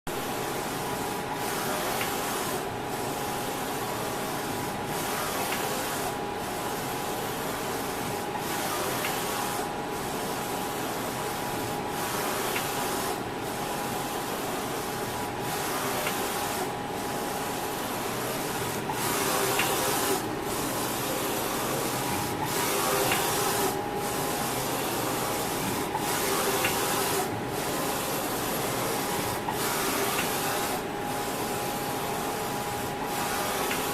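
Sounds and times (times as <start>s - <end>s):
print carriage whirring hiss: 0.2s - 33.9s.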